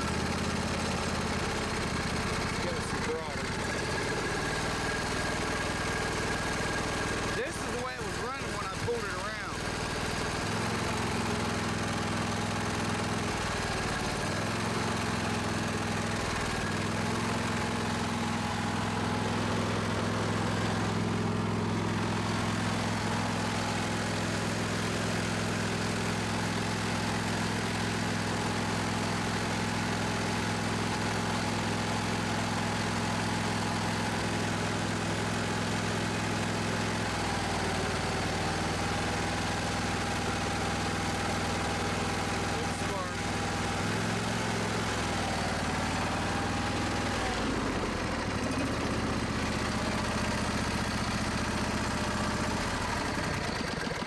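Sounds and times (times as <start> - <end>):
lawn tractor engine surging: 0.0 - 54.0.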